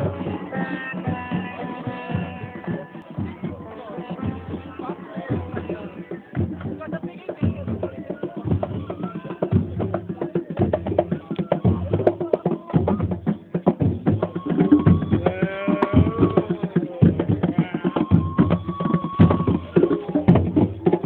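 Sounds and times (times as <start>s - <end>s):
hand drums fast rhythm: 0.0s - 21.0s.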